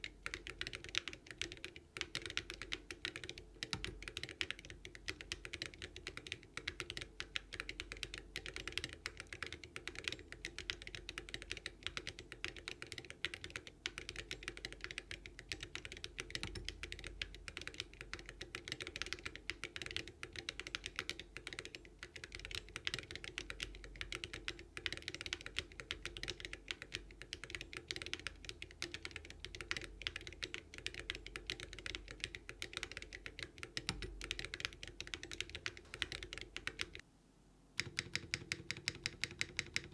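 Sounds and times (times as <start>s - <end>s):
typing on mechanical keyboard: 0.0s - 37.0s, 37.8s - 39.9s.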